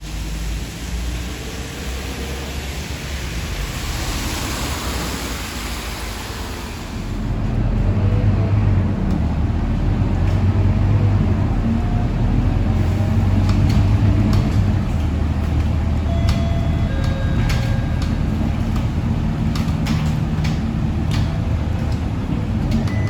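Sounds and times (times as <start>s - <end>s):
bus diesel engine running: 0.0s - 23.0s
road and air noise: 0.0s - 23.0s.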